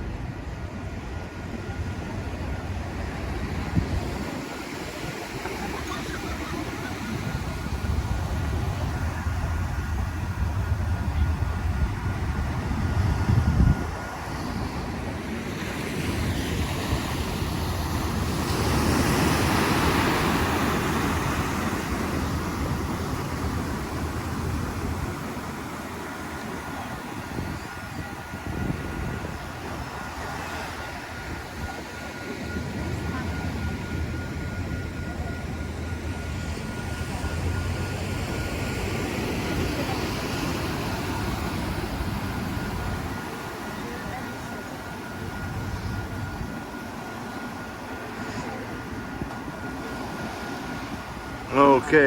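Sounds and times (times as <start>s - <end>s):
wind on microphone: 0.0s - 43.4s
locomotive diesel engine humming: 0.0s - 52.0s
ocean surf washing ashore: 0.0s - 52.0s.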